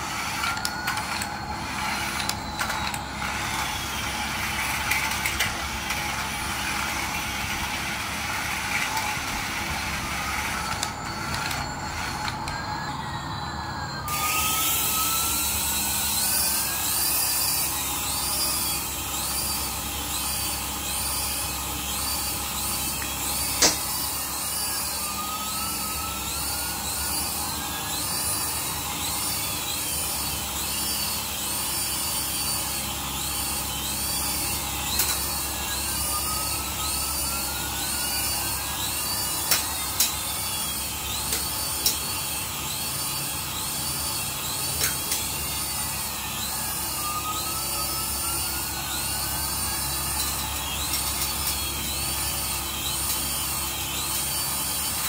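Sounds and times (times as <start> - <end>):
toy helicopter rotors whining: 0.0 - 55.0.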